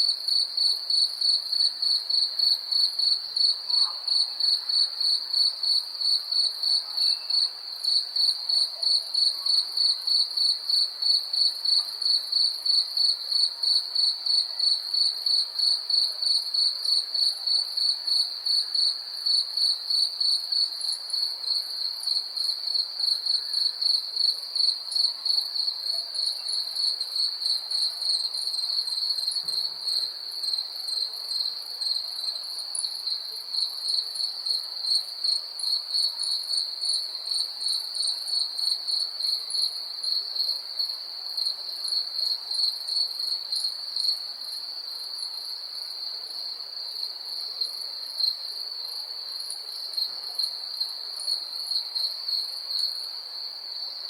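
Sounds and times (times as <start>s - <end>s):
cricket chirping: 0.2s - 54.0s.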